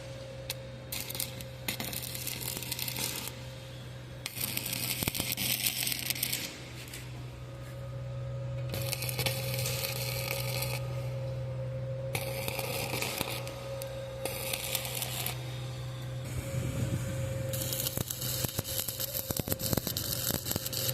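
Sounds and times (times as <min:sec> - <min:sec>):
welding machine hum: 0:00.0 - 0:20.9
welding arc crackling: 0:00.5 - 0:03.4, 0:04.2 - 0:07.1, 0:08.7 - 0:11.1, 0:12.1 - 0:20.9.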